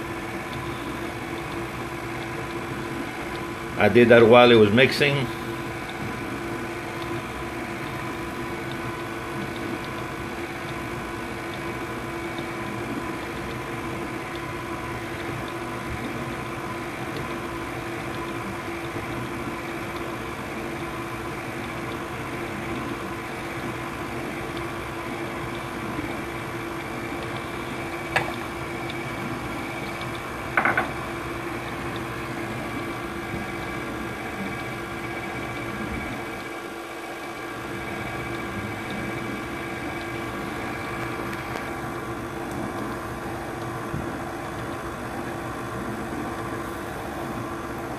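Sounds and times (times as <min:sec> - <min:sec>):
stand mixer motor humming: 0:00.0 - 0:47.9.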